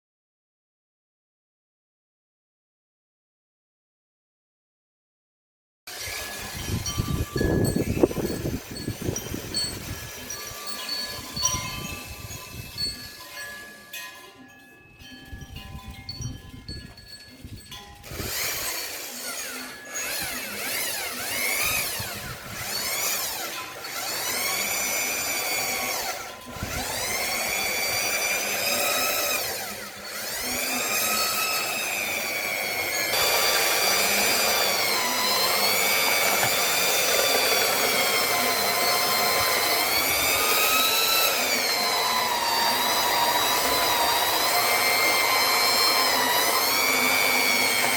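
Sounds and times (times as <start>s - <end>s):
small motor whining: 5.9s - 13.7s, 16.2s - 47.9s.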